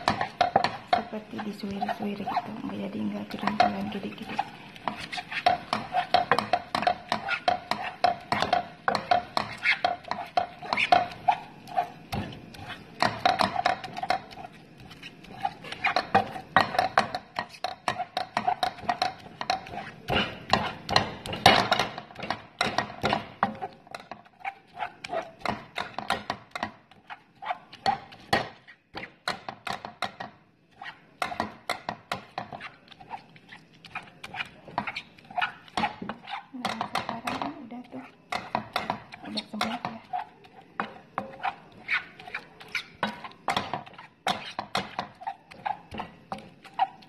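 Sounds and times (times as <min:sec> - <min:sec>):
wooden spatula tapping and scraping pan: 0:00.0 - 0:47.0.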